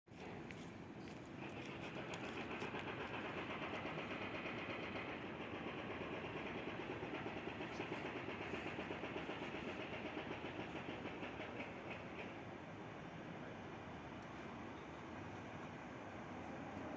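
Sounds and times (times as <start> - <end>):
train wheels clattering over rail joints: 0.2 - 16.9.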